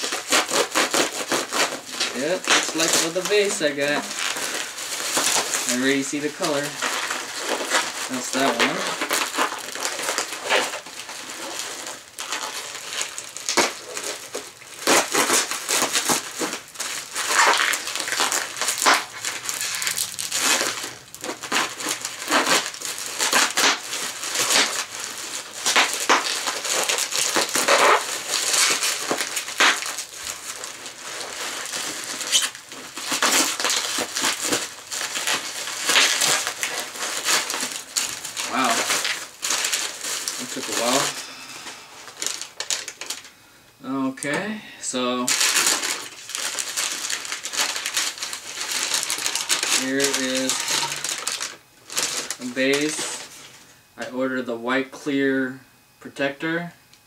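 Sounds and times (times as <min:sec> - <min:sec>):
plastic packaging crinkling: 0:00.0 - 0:53.9.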